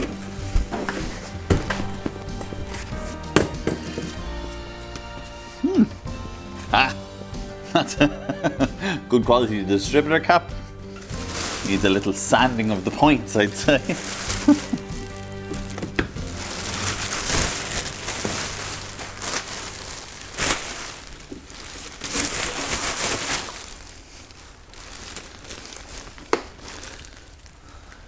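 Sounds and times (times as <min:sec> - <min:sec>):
crinkly material crumpling: 0:00.0 - 0:28.0.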